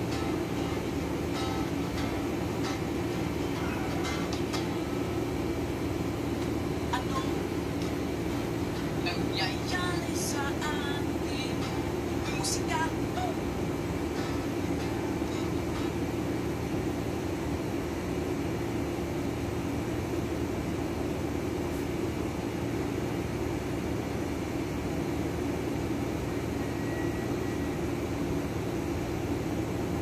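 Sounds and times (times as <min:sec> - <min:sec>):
steady background drone: 0:00.0 - 0:30.0.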